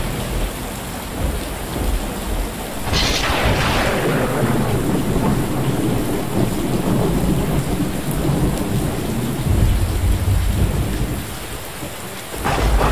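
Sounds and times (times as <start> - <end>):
heavy rain on a metal roof: 0.0 - 12.9
thunder rumbling: 0.0 - 12.9.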